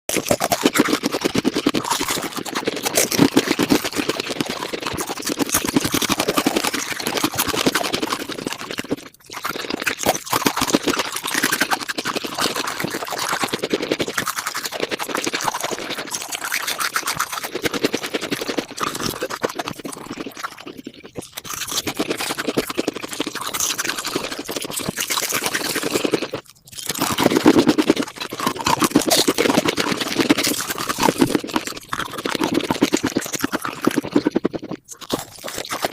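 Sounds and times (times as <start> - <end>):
sped-up chewing: 0.1 - 35.9.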